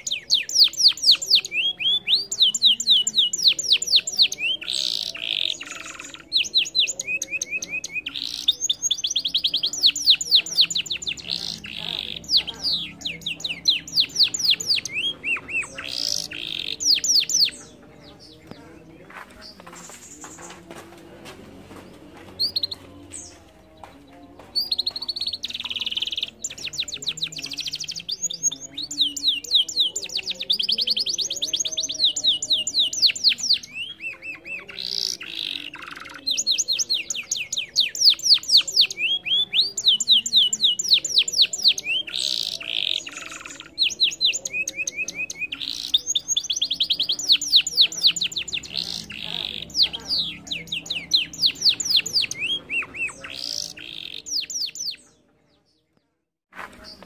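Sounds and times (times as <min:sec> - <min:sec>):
canary singing trills: 0:00.0 - 0:20.6, 0:21.7 - 0:56.0.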